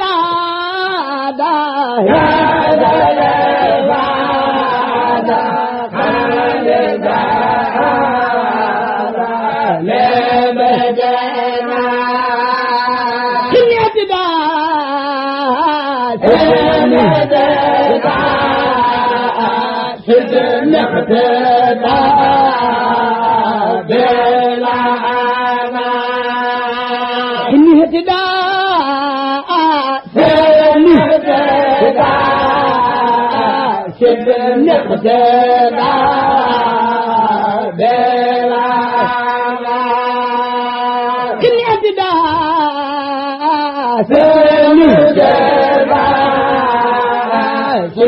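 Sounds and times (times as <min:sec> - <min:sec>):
person chanting devotional poem: 0:00.0 - 0:48.0.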